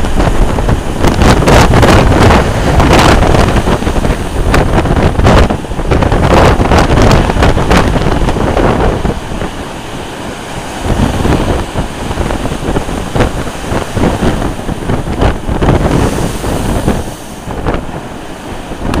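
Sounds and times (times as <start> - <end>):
gale wind buffeting microphone: 0.0 - 19.0
storm waves breaking on seawall: 0.0 - 19.0.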